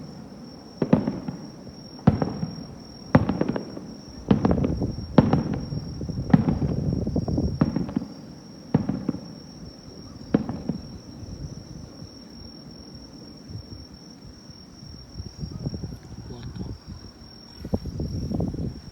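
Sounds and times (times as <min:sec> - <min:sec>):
fireworks booming: 0:00.0 - 0:13.8, 0:17.2 - 0:18.9
crickets chirring: 0:00.0 - 0:18.9.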